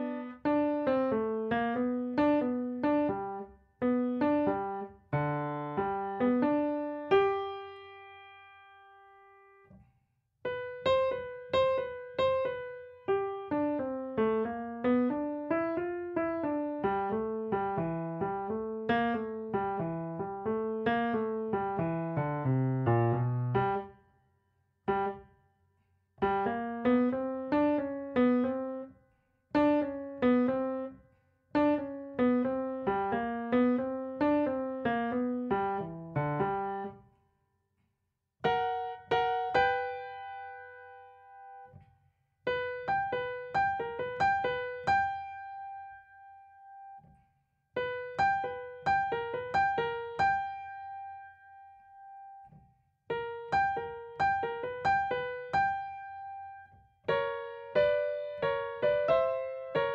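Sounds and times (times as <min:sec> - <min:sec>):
boogie-woogie piano melody: 0:00.0 - 0:08.2, 0:10.5 - 0:23.9, 0:24.9 - 0:25.2, 0:26.2 - 0:28.9, 0:29.6 - 0:30.9, 0:31.6 - 0:36.9, 0:38.4 - 0:41.7, 0:42.5 - 0:46.3, 0:47.8 - 0:51.6, 0:53.1 - 0:59.9.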